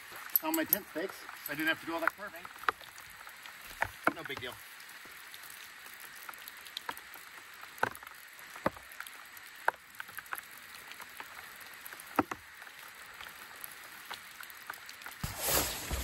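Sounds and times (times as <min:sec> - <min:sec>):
light rain hissing: 0:00.0 - 0:16.0
raindrops tapping on tent: 0:00.0 - 0:16.0.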